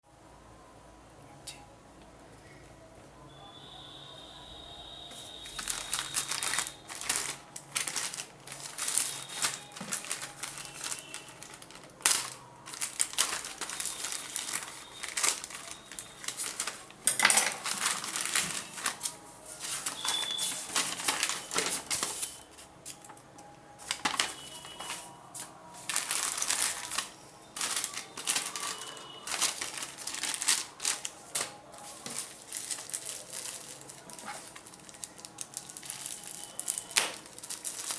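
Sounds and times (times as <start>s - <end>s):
packaging crinkling and rustling: 5.0s - 37.9s.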